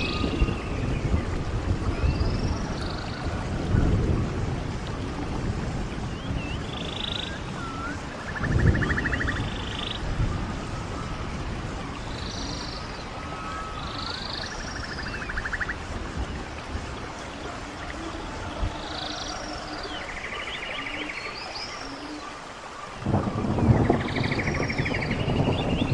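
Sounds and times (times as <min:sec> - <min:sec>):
stream water running: 0:00.0 - 0:25.9.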